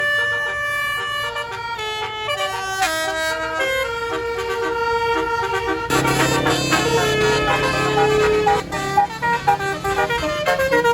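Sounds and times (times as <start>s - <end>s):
multi-tone bus horn tune: 0.0s - 10.9s
low horn tone: 0.2s - 10.9s.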